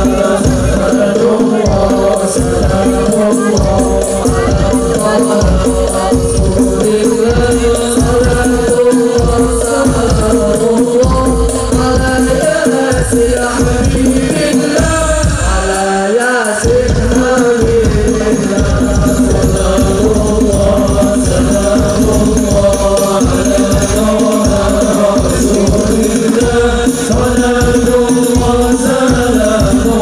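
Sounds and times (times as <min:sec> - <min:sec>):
frame drums beating: 0:00.0 - 0:30.0
men chanting in unison: 0:00.0 - 0:30.0.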